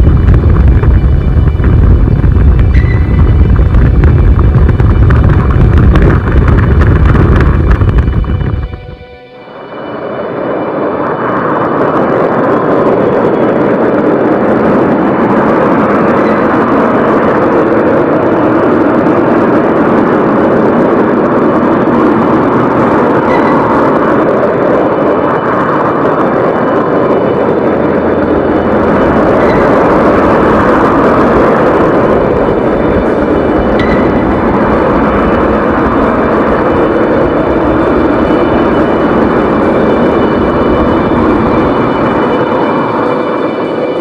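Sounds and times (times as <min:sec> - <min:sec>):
roar of venting gas and steam: 0:00.0 - 0:44.0.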